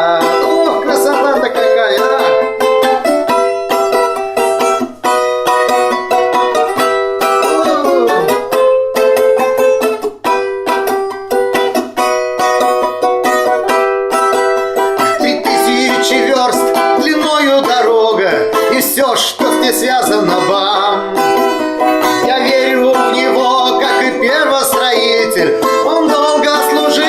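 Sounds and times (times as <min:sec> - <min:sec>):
balalaika tremolo strumming: 0:00.0 - 0:27.0.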